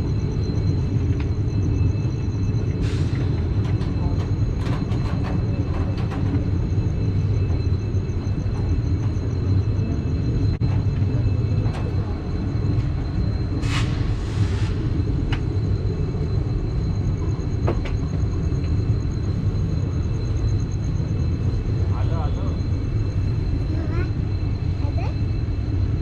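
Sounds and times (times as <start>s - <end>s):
train coach rumbling on rails: 0.0s - 26.0s.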